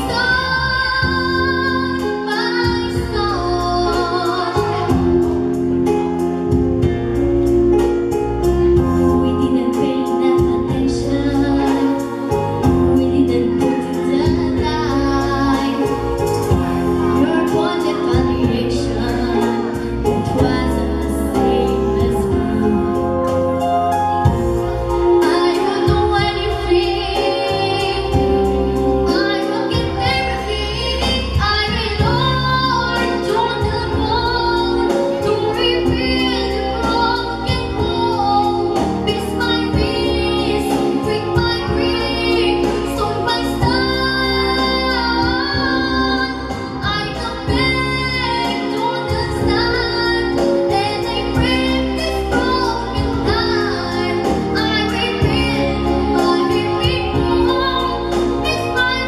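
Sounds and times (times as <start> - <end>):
girl singing a ballad: 0.0 - 59.0
instrumental backing track: 0.0 - 59.0.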